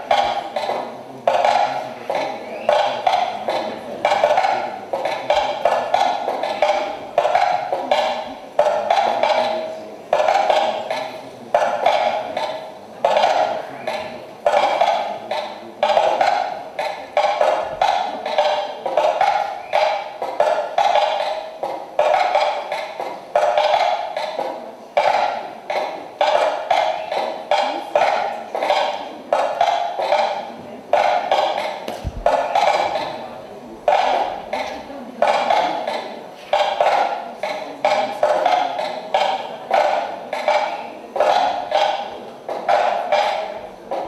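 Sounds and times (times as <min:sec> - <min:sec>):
ringing percussive knocking: 0:00.0 - 0:44.0.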